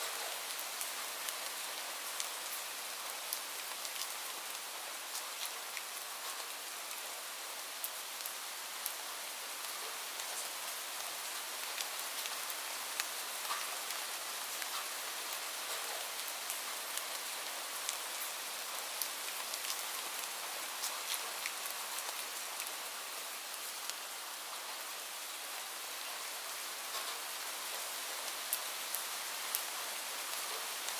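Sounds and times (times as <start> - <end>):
light rain hissing: 0.0 - 30.9.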